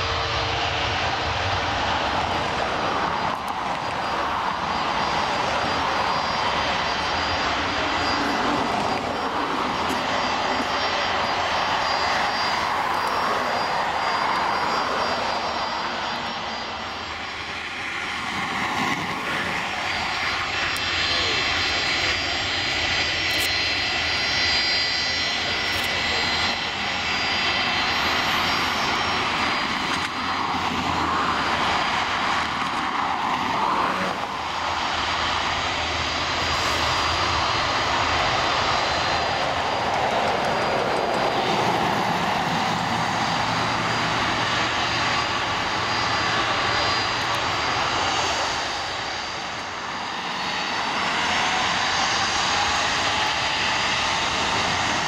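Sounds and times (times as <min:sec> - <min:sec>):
jet engines roaring and whining: 0:00.0 - 0:55.0.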